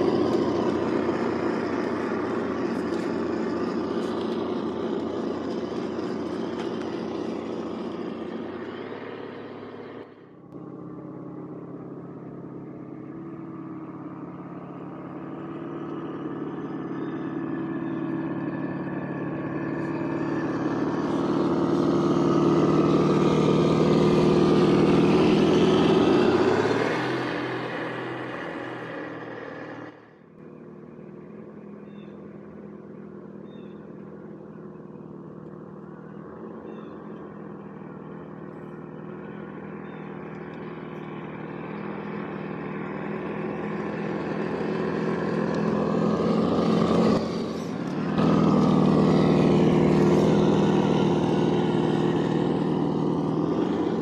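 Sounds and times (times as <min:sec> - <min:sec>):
simulated engine sound: 0:00.0 - 0:54.0.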